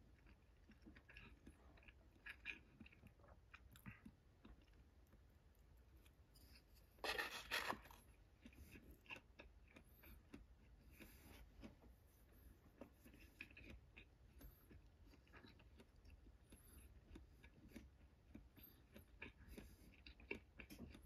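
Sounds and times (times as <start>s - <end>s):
close chewing: 0.0s - 21.0s.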